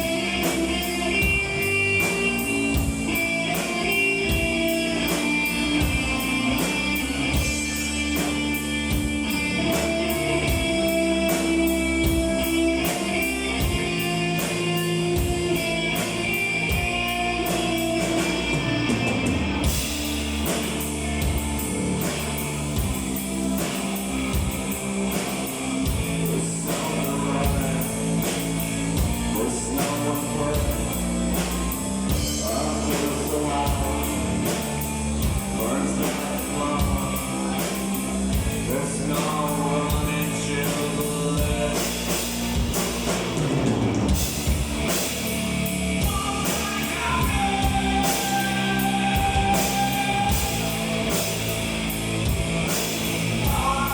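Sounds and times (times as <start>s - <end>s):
electric guitar melody: 0.0s - 53.9s
live rock band playing: 0.0s - 53.9s.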